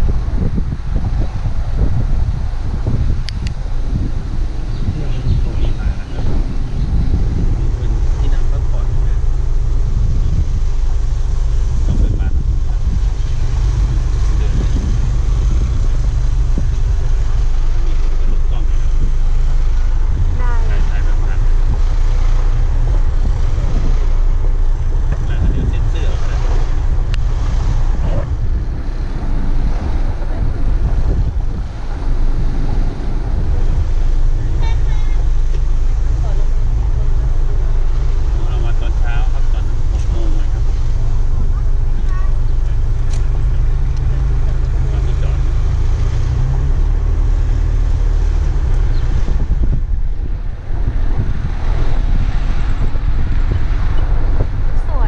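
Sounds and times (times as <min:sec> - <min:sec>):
car driving: 0:00.0 - 0:55.0
wind rumbling on microphone: 0:00.0 - 0:55.0.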